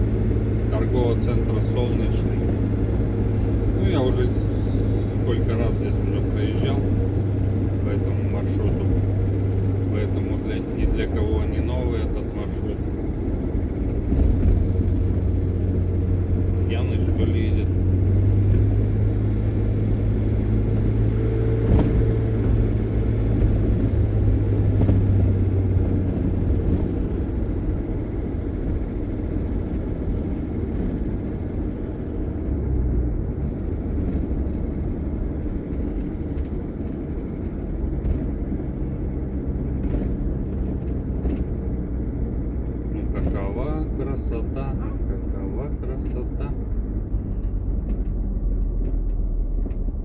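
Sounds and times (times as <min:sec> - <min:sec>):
low engine hum: 0:00.0 - 0:50.0
tyre and road rumble: 0:00.0 - 0:50.0.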